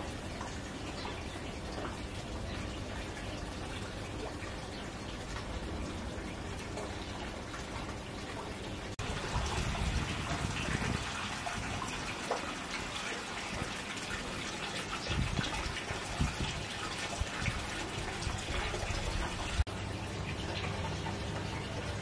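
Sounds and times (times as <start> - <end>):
running water: 0.0 - 22.0.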